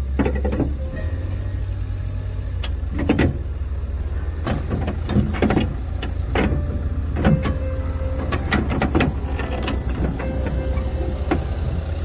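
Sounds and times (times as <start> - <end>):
clanking and rattling: 0.0 - 1.8, 2.5 - 12.0
forklift engine rumbling: 0.0 - 12.0.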